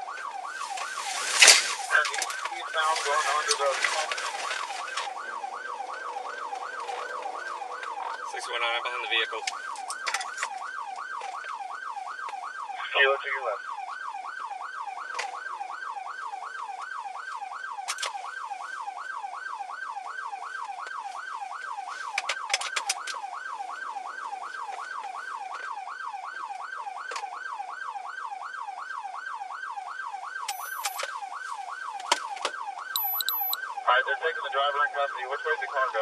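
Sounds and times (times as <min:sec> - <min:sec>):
police siren yelping: 0:00.0 - 0:36.0.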